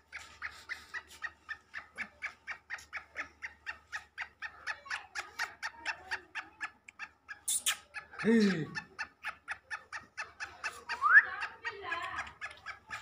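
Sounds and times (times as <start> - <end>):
bird clucking rapidly: 0.0 - 13.0.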